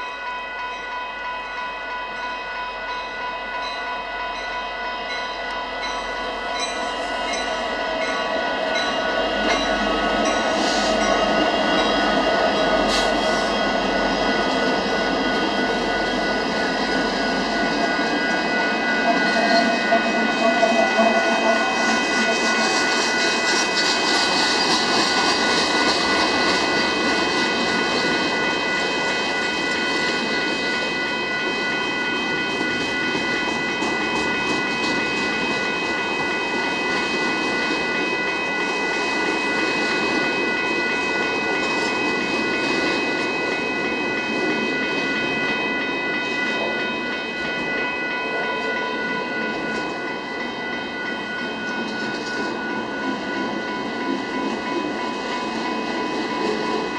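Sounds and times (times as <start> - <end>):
crossing warning bell ringing: 0.0 - 56.9
freight train wheels rumbling: 0.0 - 56.9.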